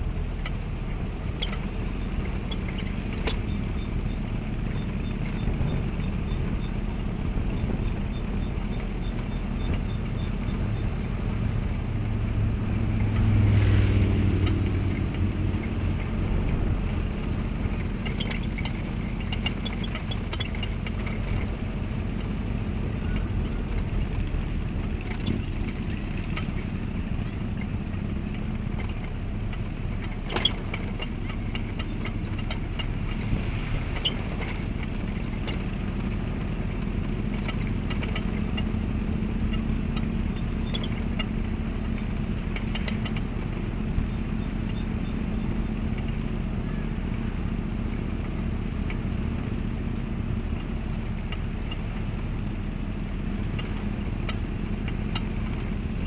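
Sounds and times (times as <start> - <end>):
motorcycle engines rumbling past: 0.0 - 56.0.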